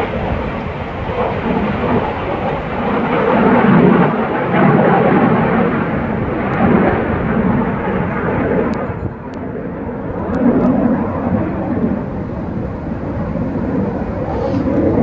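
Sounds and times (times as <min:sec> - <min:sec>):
jet aircraft roar: 0:00.0 - 0:15.0
wind buffeting microphone: 0:00.0 - 0:15.0.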